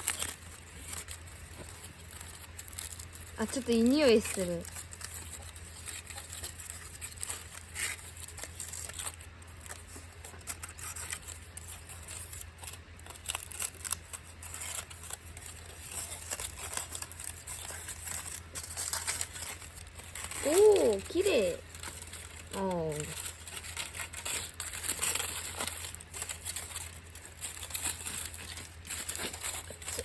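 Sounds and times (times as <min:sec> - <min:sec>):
soft crinkling of wrapping: 0:00.0 - 0:30.0
steady low hum: 0:00.0 - 0:30.0.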